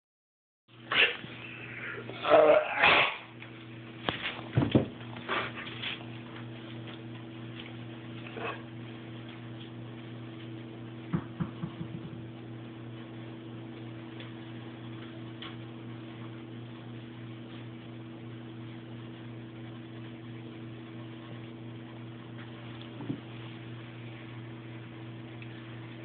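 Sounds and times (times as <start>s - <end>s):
steady low hum: 0.7s - 26.0s.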